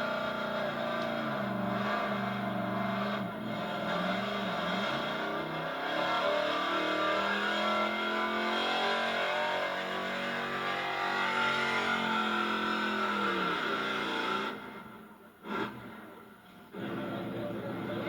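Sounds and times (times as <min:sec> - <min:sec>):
truck engine at high revs: 0:00.0 - 0:18.0.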